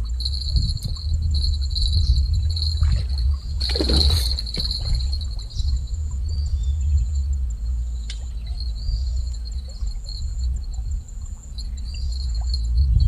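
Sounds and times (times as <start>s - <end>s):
insects chirring: 0.0s - 13.0s
low rumble: 0.0s - 13.0s.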